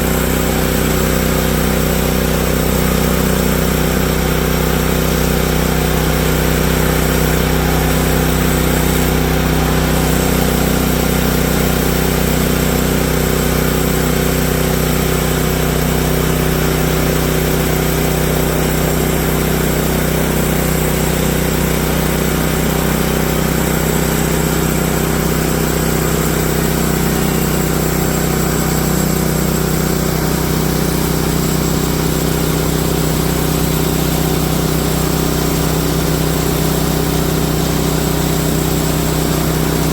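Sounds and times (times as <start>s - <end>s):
gasoline engine running: 0.0s - 39.9s
saw blade cutting log: 0.0s - 39.9s.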